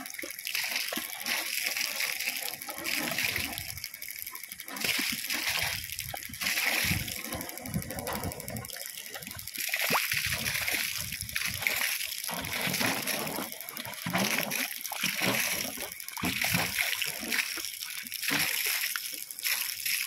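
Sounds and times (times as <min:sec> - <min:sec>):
water gushing from pipes: 0:00.0 - 0:20.0.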